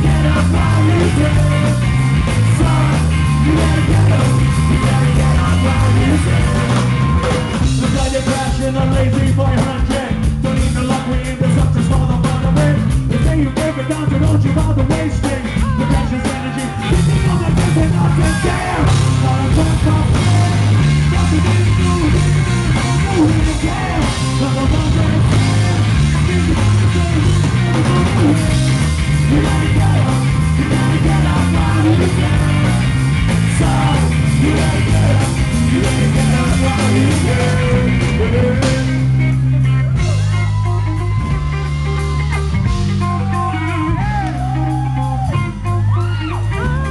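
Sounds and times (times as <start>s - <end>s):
man singing lead vocals: 0.0s - 41.8s
live rock band: 0.0s - 46.9s.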